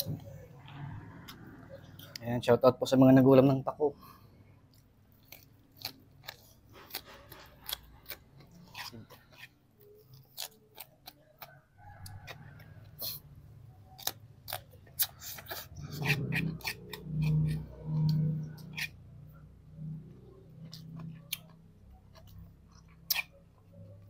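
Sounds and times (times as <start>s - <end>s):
person chewing food: 0.0s - 2.3s, 4.3s - 24.0s.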